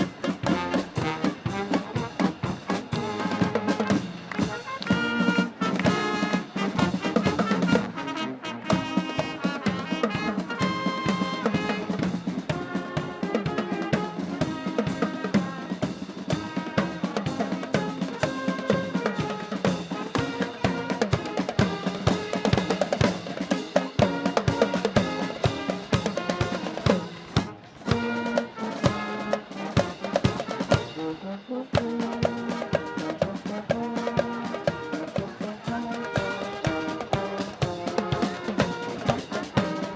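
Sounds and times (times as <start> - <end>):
brass band playing tune: 0.0 - 39.9
snare and bass drums: 0.0 - 39.9.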